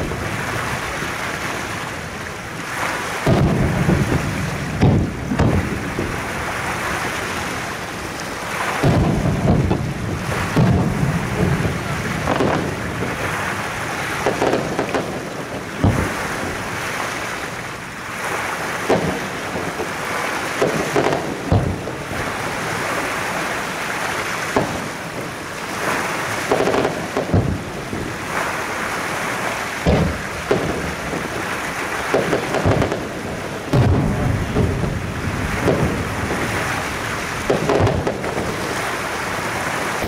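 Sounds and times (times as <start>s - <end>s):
fireworks booming: 0.0s - 40.0s.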